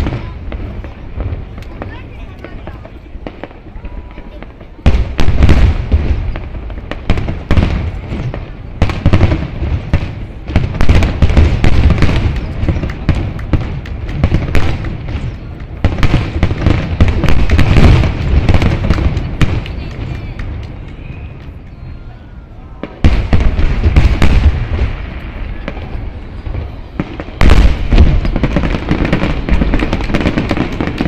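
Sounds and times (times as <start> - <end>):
fireworks shell bursts and booms: 0.0 - 21.6, 22.8 - 31.0.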